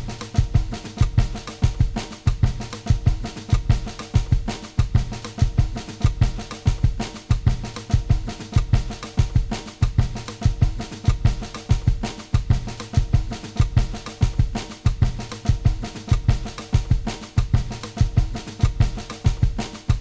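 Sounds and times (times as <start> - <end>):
drum kit beat: 0.0 - 20.0.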